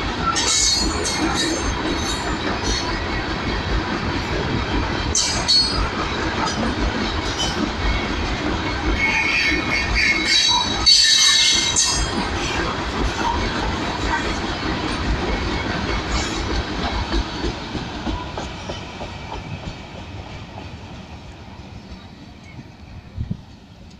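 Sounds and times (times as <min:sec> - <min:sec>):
train wheels clattering over rail joints: 0:00.0 - 0:22.7.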